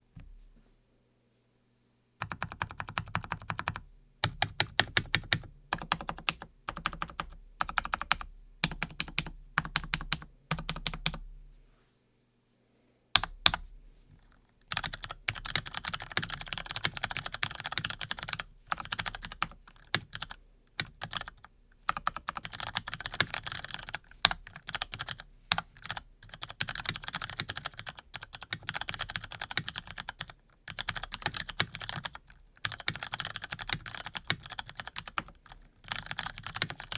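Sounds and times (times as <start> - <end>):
mechanical keyboard typing: 2.2 - 11.2, 13.2 - 13.6, 14.7 - 36.9.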